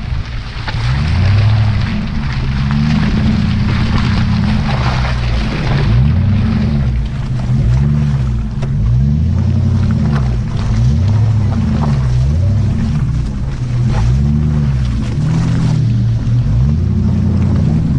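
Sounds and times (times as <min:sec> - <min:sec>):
car engine revving: 0:00.0 - 0:17.9
tyres churning mud and water: 0:00.0 - 0:17.9.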